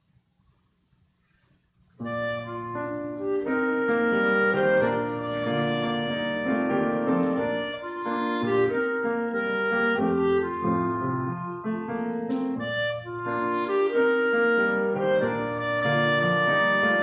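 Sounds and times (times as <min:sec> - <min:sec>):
clarinet melody: 0:02.0 - 0:17.0
piano accompaniment: 0:02.0 - 0:17.0.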